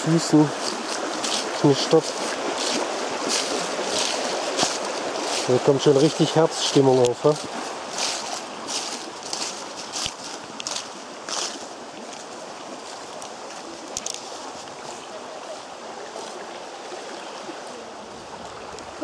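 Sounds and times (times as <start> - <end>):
footsteps through grass and leaves: 0.0 - 19.0
stream rushing: 0.0 - 19.0.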